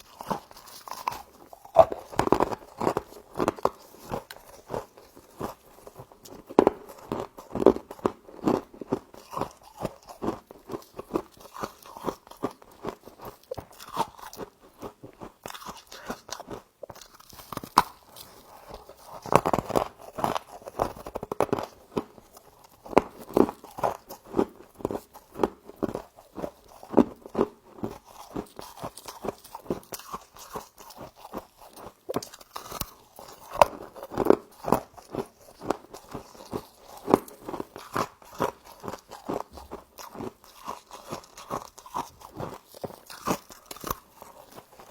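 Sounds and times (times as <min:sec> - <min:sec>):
chewing and crunching frost: 0:00.0 - 0:44.9.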